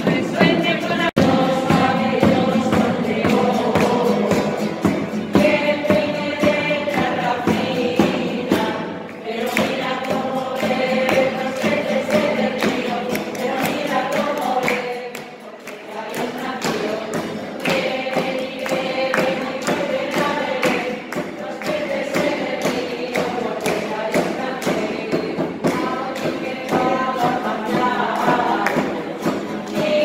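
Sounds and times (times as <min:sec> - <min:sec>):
acoustic guitar: 0:00.0 - 0:30.0
group singing a carol: 0:00.0 - 0:30.0.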